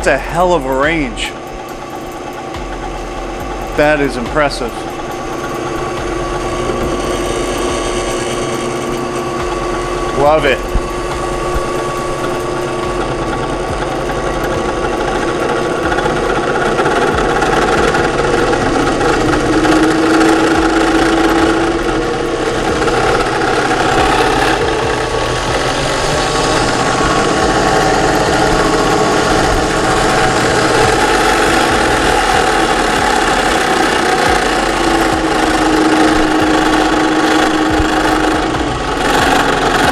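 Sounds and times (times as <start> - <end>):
drill press motor humming: 0.0 - 39.9.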